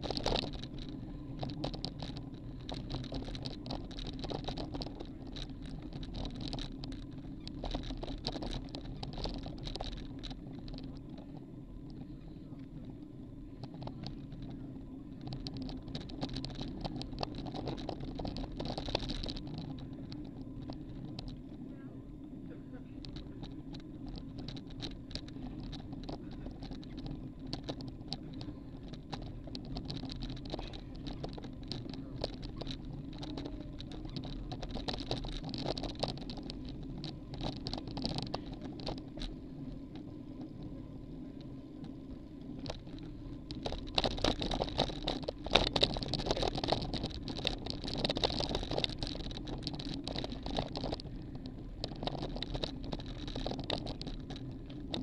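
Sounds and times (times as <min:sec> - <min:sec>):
rattling clicks from bike: 0:00.0 - 0:21.6, 0:22.4 - 0:55.0
bike tyre hum: 0:00.0 - 0:55.0.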